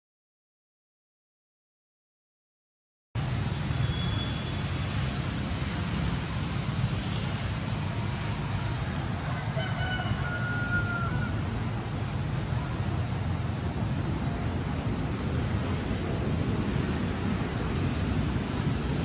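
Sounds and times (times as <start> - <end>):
low outdoor rumble: 3.2 - 19.0.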